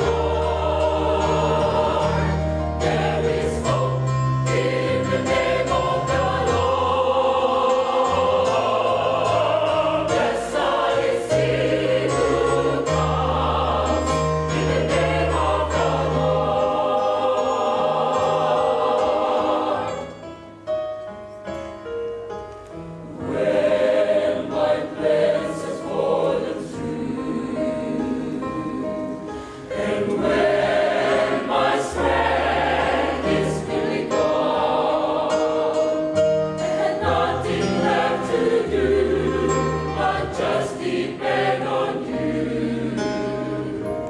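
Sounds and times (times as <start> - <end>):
mixed choir singing: 0.0 - 20.2, 23.1 - 44.0.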